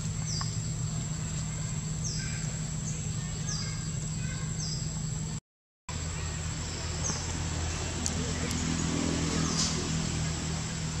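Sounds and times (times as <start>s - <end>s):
bird chirping: 0.0s - 5.3s, 6.0s - 10.8s
steady low hum: 0.0s - 11.0s.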